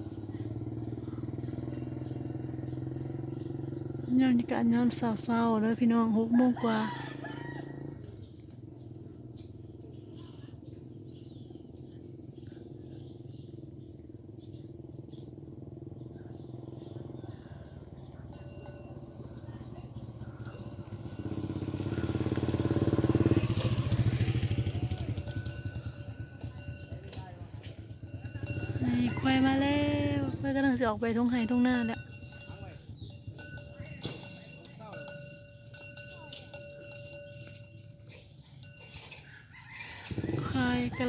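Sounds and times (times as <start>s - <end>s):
motorcycle engine passing: 0.0s - 41.0s.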